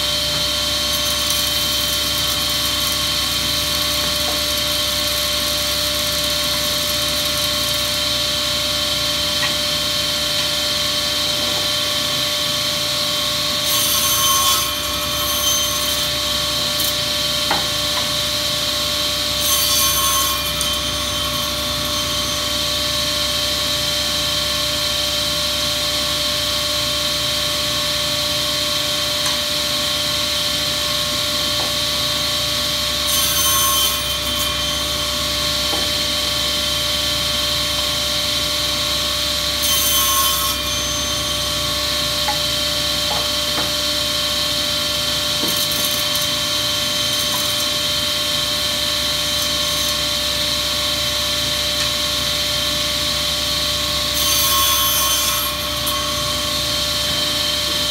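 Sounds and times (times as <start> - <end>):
saw blade cutting wood: 0.0 - 25.6, 29.2 - 57.9
table saw whining: 0.0 - 57.9.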